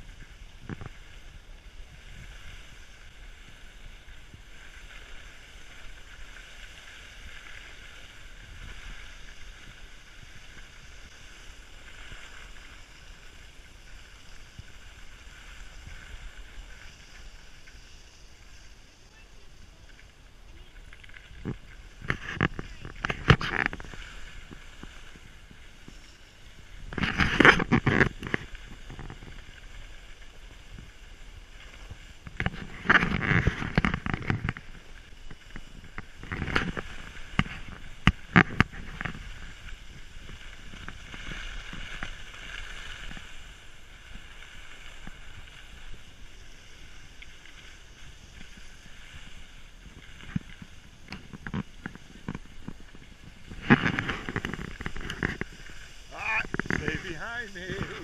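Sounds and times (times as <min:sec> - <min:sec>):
skis scraping over snow: 0:00.0 - 0:58.0.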